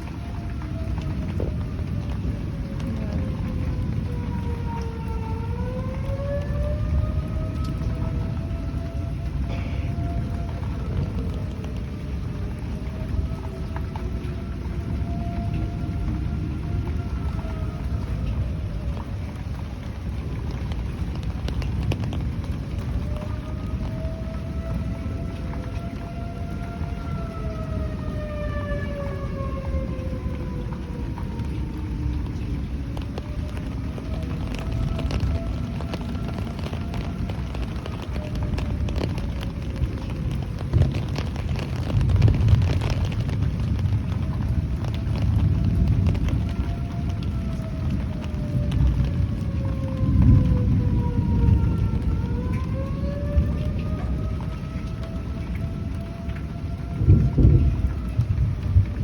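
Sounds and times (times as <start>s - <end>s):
low uneven rumble: 0.0s - 5.2s, 6.8s - 52.3s
distant warning siren: 0.0s - 59.0s
wind buffeting microphone: 0.0s - 59.0s.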